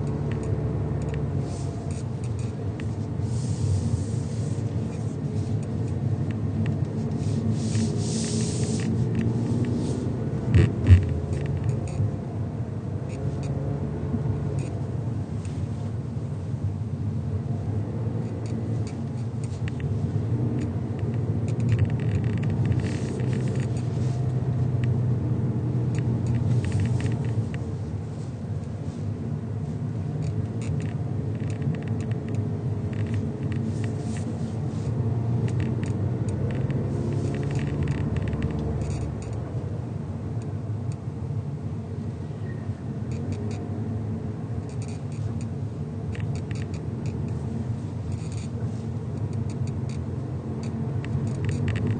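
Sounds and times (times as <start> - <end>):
low road rumble: 0.0 - 51.9.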